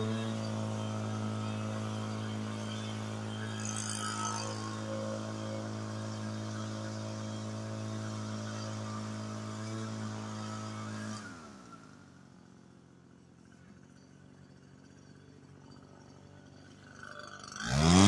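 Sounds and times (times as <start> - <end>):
leaf blower engine running: 0.0 - 18.0.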